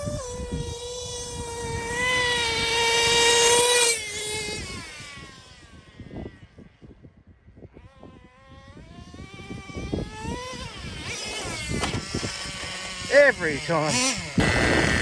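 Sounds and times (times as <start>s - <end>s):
small two-stroke engine revving: 0.0s - 6.9s, 7.5s - 15.0s
wind buffeting microphone: 0.0s - 15.0s.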